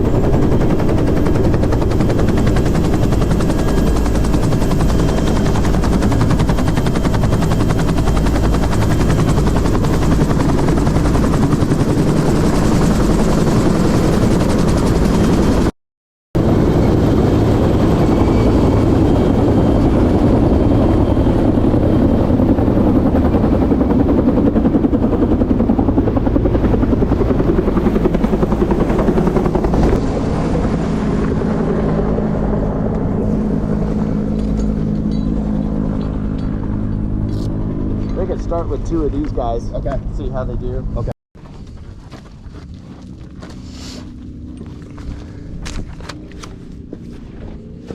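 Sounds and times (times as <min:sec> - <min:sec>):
helicopter rotor and turbine: 0:00.0 - 0:15.8, 0:16.4 - 0:47.9.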